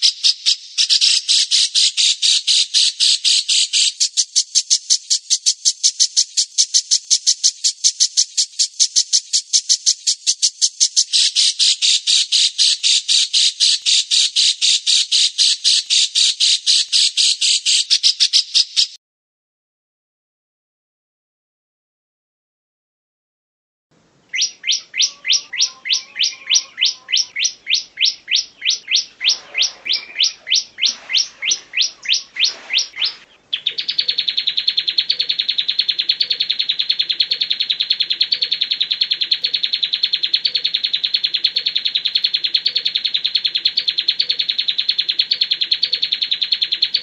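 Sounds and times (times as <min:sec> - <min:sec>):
songbird song: 0:00.0 - 0:19.0, 0:23.9 - 0:47.0.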